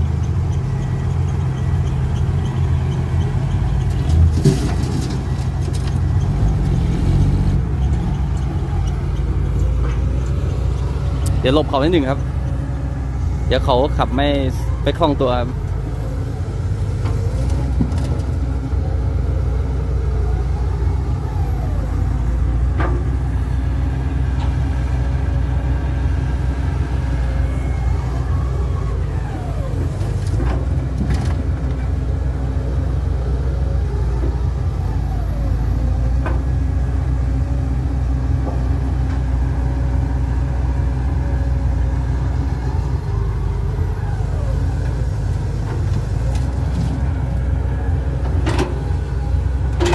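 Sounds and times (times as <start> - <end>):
excavator engine rumble: 0.0 - 49.9
hydraulic whines: 0.0 - 49.9.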